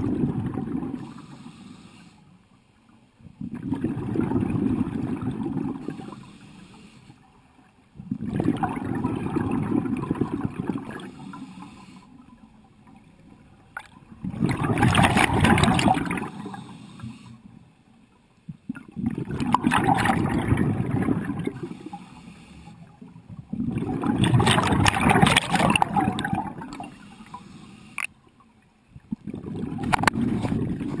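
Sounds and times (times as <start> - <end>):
exhaled bubbles gurgling underwater: 0.0 - 2.0, 3.1 - 17.6, 18.4 - 31.0.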